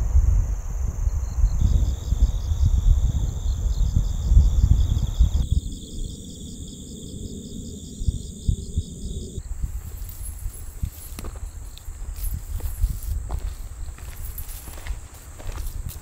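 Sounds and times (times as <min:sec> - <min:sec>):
crickets chirping: 0:00.0 - 0:16.0
high insect trill: 0:00.0 - 0:16.0
wind buffeting microphone: 0:00.0 - 0:16.0.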